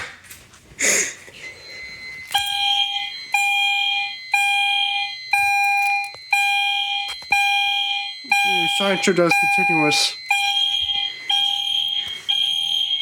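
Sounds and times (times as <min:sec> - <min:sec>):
pulsing fire alarm tone: 0:01.3 - 0:13.0.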